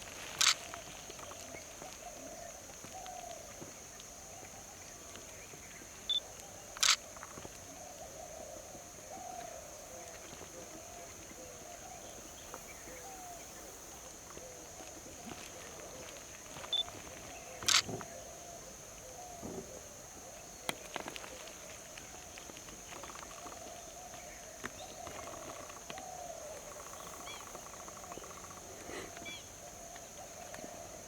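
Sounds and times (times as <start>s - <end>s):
high-pitched outdoor hiss: 0.0s - 31.0s.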